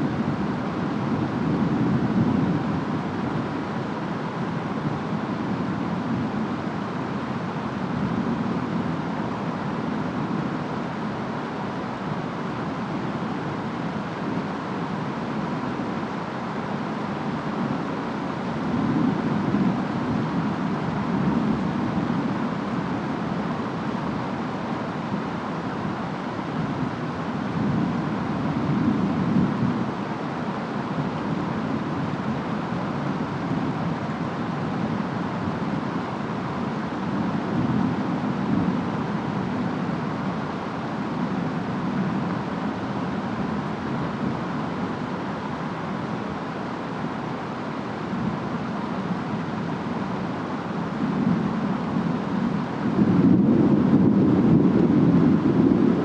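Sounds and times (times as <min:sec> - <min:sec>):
rain: 0:00.0 - 0:56.0
wind: 0:00.0 - 0:56.0.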